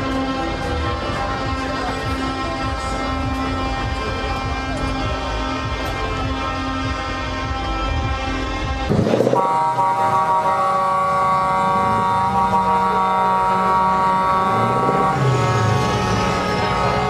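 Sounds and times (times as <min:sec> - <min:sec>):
truck air horns chord: 0:00.0 - 0:17.0.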